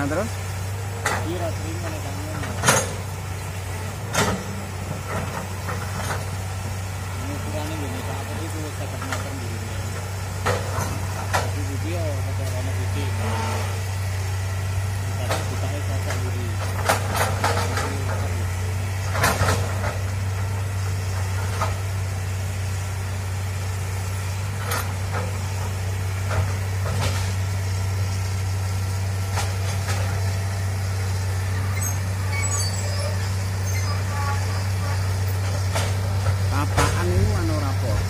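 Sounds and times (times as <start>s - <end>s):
excavator diesel engine droning: 0.0s - 38.0s.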